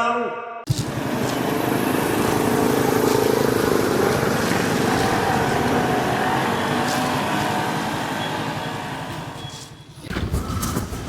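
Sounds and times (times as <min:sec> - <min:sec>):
vehicle engine running: 0:00.7 - 0:10.9.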